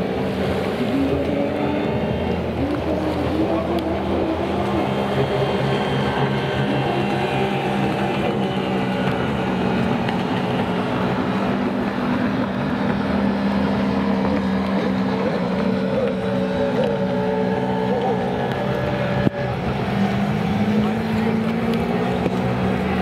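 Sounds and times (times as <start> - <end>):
jet ski engine drone: 0.0 - 23.0.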